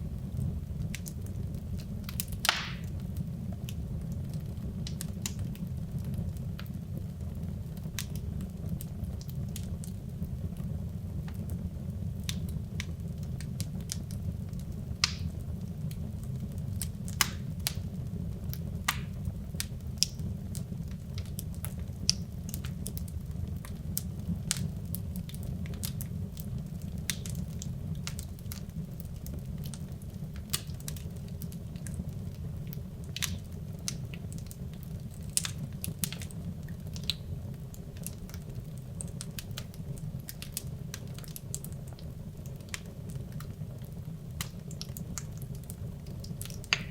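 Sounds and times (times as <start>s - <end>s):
burning wood crackling and popping: 0.0s - 46.9s
fire burning: 0.0s - 46.9s.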